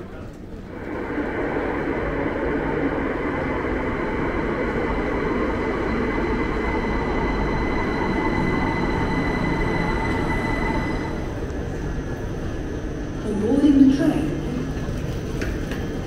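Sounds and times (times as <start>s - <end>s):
electric train rumble: 0.0s - 16.0s
high train whine: 0.0s - 16.0s.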